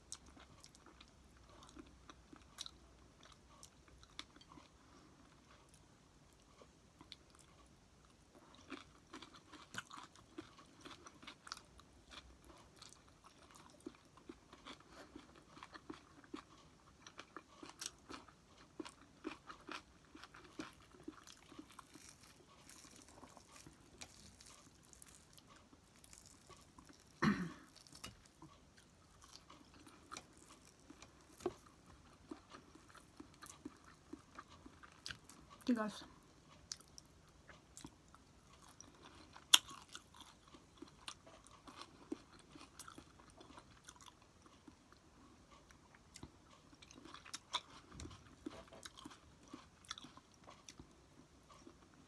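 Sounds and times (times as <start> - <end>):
close chewing with crunches: 0.0 - 52.0.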